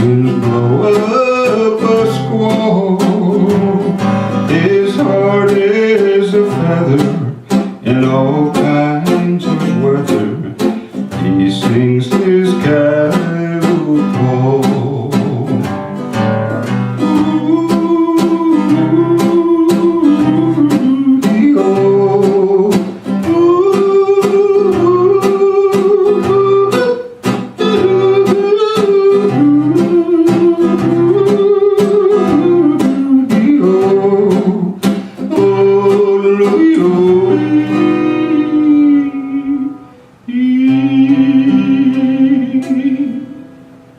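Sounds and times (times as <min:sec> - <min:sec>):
man singing yodel-like melody: 0:00.0 - 0:43.9
strummed acoustic guitar: 0:00.0 - 0:43.9.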